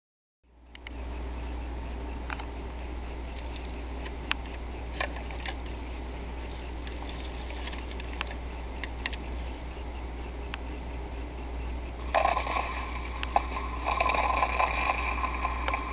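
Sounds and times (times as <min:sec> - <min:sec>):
steady low hum: 0:00.4 - 0:15.9.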